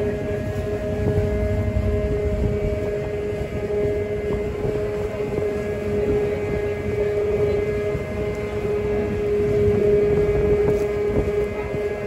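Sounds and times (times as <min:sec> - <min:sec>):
low rumble of wind: 0:00.0 - 0:12.0
ship engine droning hum: 0:00.0 - 0:12.0
water noise: 0:00.0 - 0:12.0.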